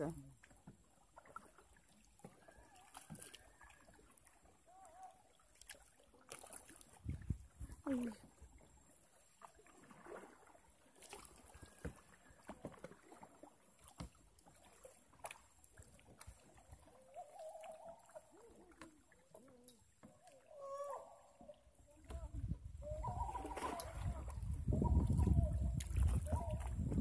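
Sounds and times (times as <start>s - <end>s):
kayak paddle dips and drips: 0.0s - 27.0s.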